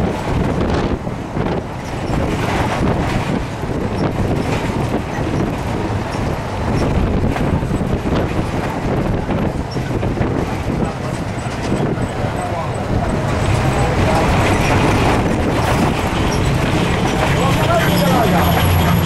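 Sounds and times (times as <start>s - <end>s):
moving vehicle rumble: 0.0s - 19.0s
wind on microphone: 0.0s - 19.0s.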